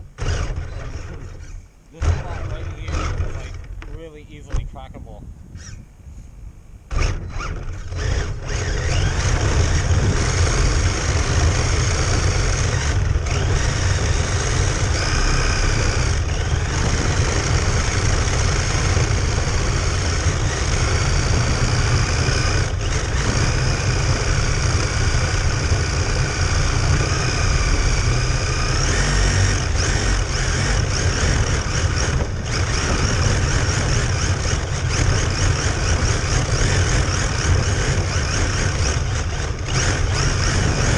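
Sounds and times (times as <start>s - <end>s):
radio-controlled car motor whining: 0.0s - 4.7s, 5.6s - 5.8s, 6.9s - 40.9s.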